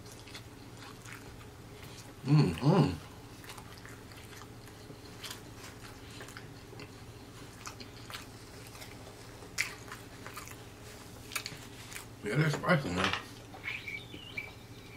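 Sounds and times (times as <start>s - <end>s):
chewing fried chicken: 0.0s - 13.8s
steady low hum: 0.0s - 14.9s.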